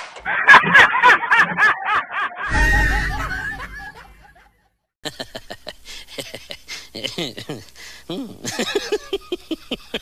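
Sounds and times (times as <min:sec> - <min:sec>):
person laughing hard: 0:00.3 - 0:10.0.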